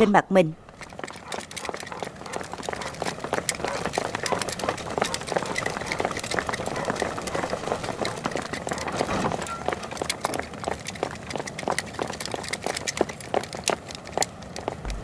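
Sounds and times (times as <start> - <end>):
group running on hard ground: 0.6 - 15.0.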